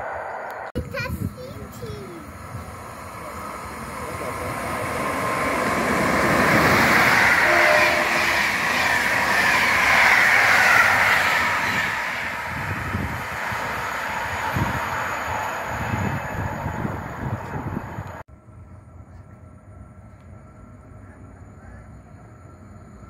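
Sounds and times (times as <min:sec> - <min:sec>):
passenger train rushing past: 0:00.0 - 0:23.0.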